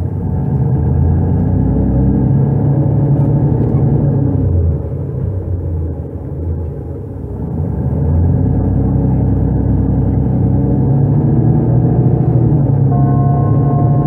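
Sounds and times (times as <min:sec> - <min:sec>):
bus diesel engine under load: 0:00.0 - 0:14.0.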